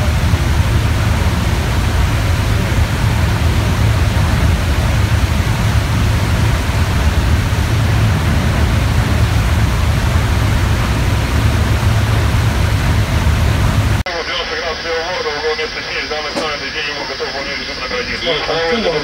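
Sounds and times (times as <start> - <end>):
heavy low rumble: 0.0 - 19.0
rushing wake water: 0.0 - 19.0.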